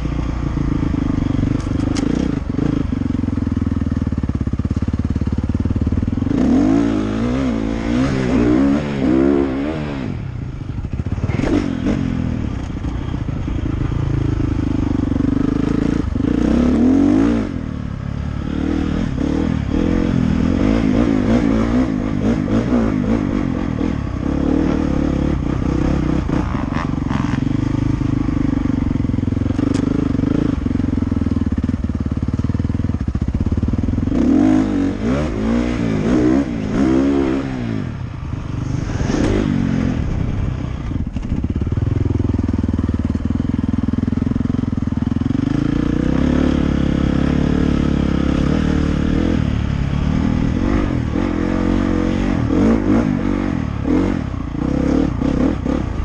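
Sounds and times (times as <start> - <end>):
dirt bike engine revving: 0.6 - 3.2, 5.7 - 30.9, 33.2 - 42.8, 44.0 - 56.0.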